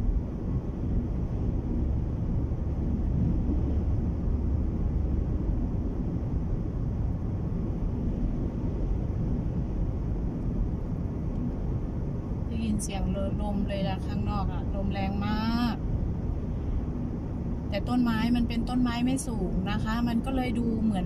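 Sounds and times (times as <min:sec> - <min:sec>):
wind and road noise in car: 0:00.0 - 0:21.0.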